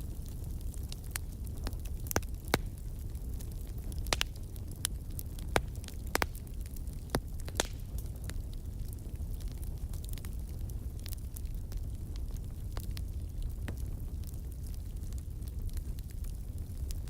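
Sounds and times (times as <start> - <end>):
fire crackling and popping: 0.0 - 17.0
fire rumbling in fireplace: 0.0 - 17.0.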